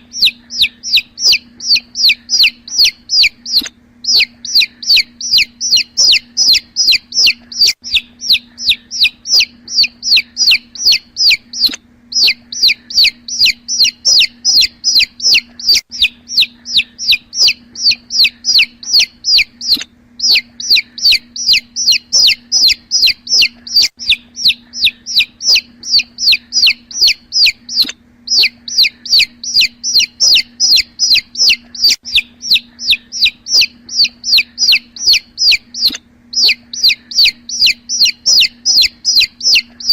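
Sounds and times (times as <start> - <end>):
chicks peeping: 0.0 - 39.9
faint low hum: 0.0 - 39.9.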